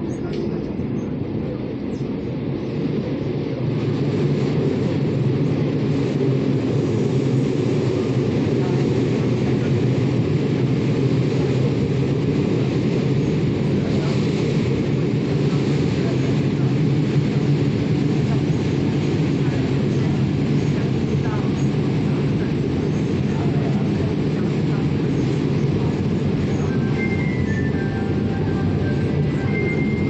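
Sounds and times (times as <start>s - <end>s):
train wheels and motors rumbling: 0.0s - 30.0s.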